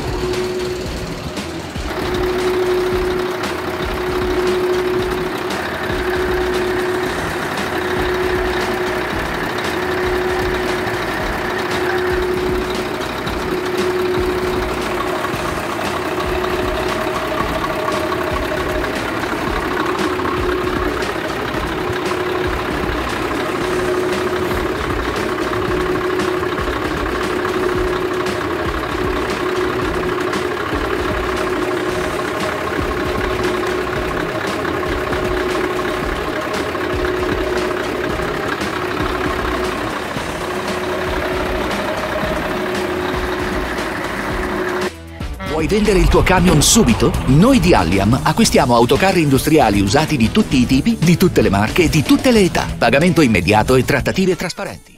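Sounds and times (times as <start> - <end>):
diesel truck engine idling: 0.0 - 54.6.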